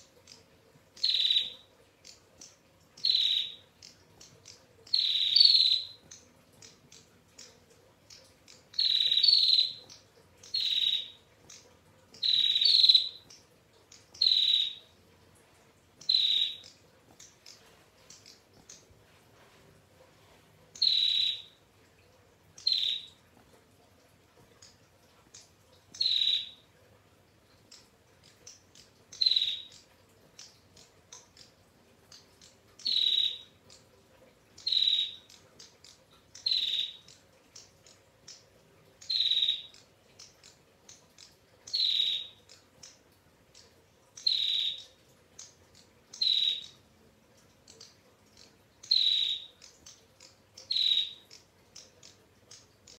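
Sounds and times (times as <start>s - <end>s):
faint bird ticking notes: 0.0s - 53.0s.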